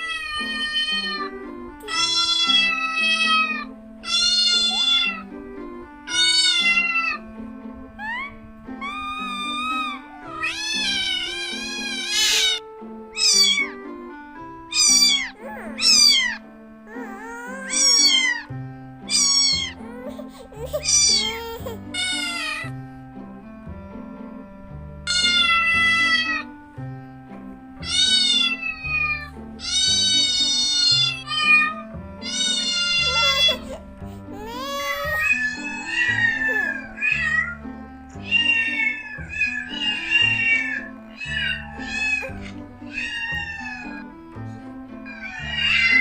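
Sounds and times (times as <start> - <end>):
cats meowing: 0.0 - 5.4, 6.0 - 7.3, 8.0 - 13.9, 14.7 - 22.8, 25.1 - 26.6, 27.8 - 44.2, 45.0 - 46.0
soft background music: 0.0 - 46.0.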